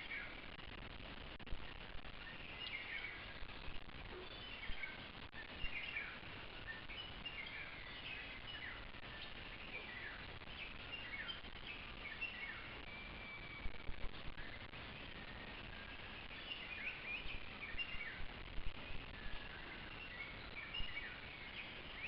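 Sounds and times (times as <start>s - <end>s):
steady background hiss: 0.0s - 22.0s
birds calling: 1.7s - 22.0s.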